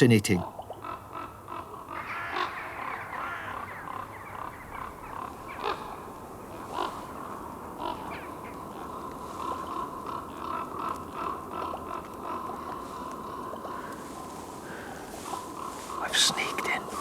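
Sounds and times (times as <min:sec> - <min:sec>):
ravens croaking and cawing: 0:00.0 - 0:17.0.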